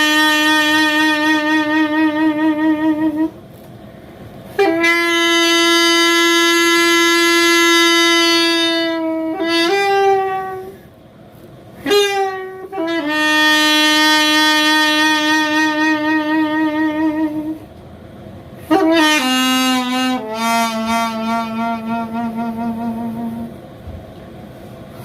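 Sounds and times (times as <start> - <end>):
solo wind instrument long notes: 0.0 - 3.4, 4.5 - 11.1, 11.8 - 17.8, 18.6 - 23.7.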